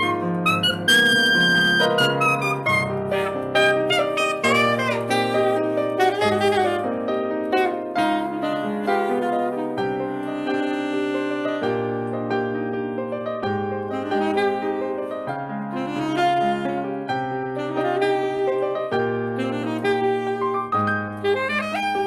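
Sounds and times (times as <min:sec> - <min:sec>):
piano chords: 0:00.0 - 0:22.0
saxophone melody: 0:00.0 - 0:22.0.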